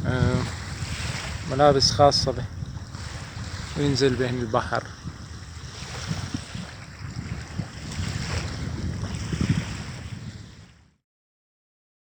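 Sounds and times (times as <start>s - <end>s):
sea water washing on shore: 0.0s - 10.8s
wind buffeting microphone: 0.0s - 11.0s.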